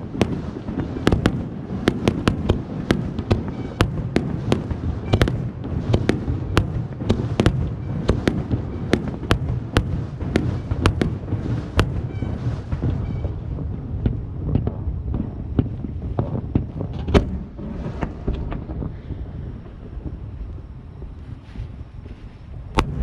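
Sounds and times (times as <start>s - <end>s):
fireworks crackling and popping: 0.0s - 23.0s
low rumble: 0.0s - 23.0s.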